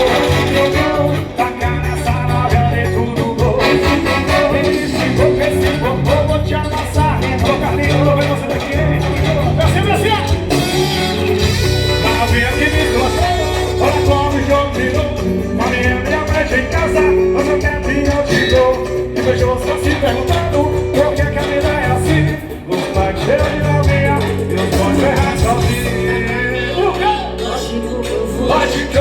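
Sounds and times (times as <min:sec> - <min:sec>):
loud music over sound system: 0:00.0 - 0:29.0.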